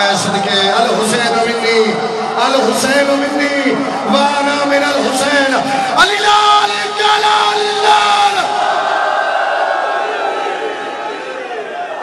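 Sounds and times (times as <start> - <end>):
murmur of crowd: 0.0 - 12.0.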